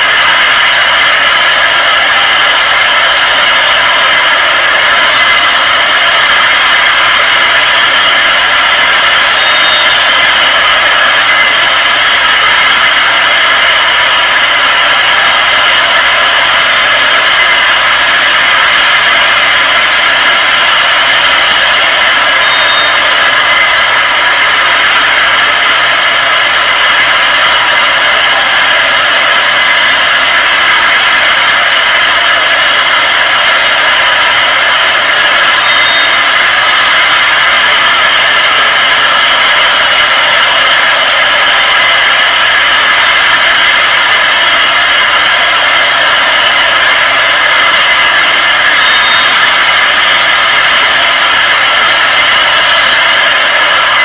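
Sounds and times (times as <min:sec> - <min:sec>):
loud steady hissing: 0:00.0 - 0:54.0.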